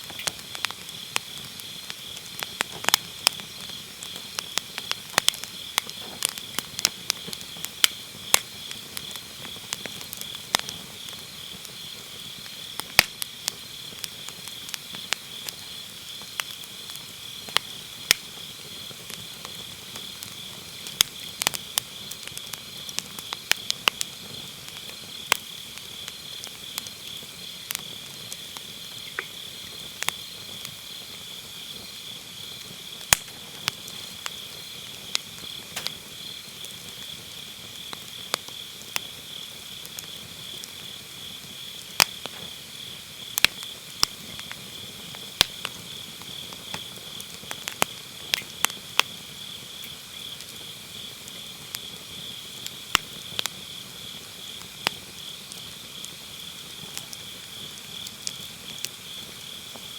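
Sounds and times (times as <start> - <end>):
firewood crackling and popping: 0.0 - 59.9
insects chirring: 0.0 - 59.9.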